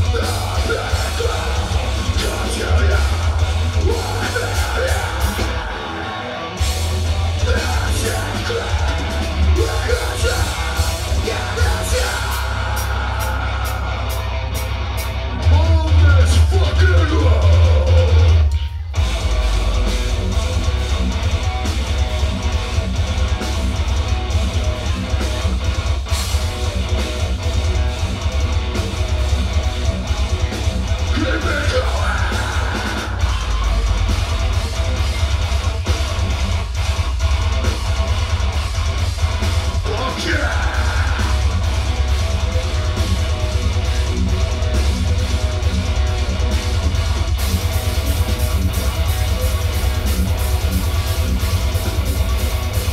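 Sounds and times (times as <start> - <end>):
bass guitar: 0.0 - 52.9
distorted electric guitars: 0.0 - 52.9
fast dense drumming: 0.0 - 52.9.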